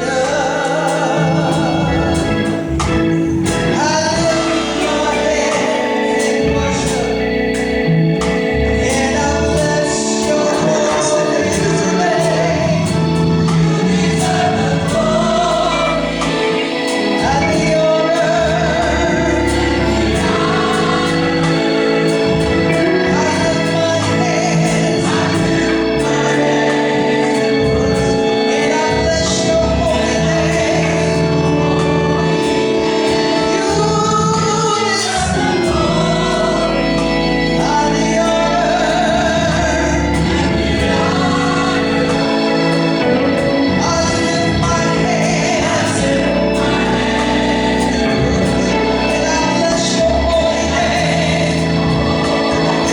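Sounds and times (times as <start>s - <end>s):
gospel choir singing: 0.0s - 52.9s
instrumental accompaniment: 0.0s - 52.9s.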